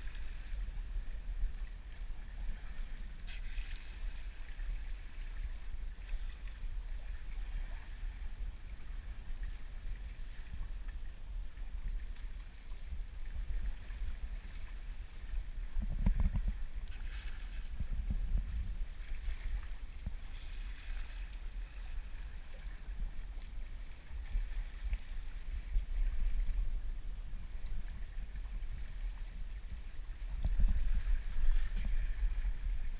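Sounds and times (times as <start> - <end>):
water splashing along boat bow: 0.0 - 32.9
wind rumble on microphone: 0.0 - 32.9.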